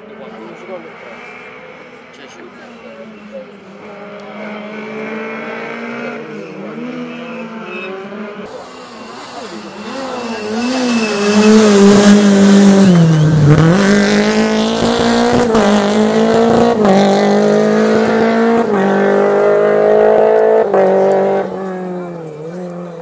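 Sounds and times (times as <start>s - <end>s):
rally car engine accelerating: 3.8s - 23.0s.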